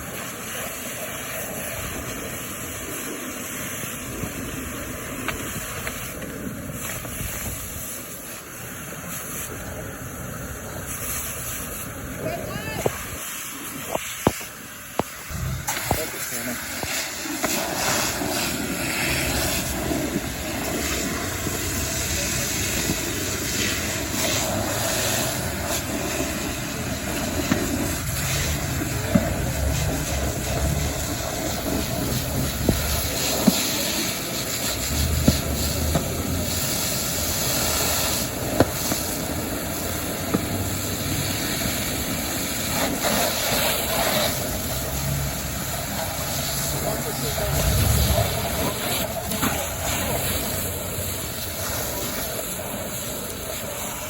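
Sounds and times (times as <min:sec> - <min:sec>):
fire engine running: 0:00.0 - 0:54.0
hose water and steam hissing: 0:00.0 - 0:54.0.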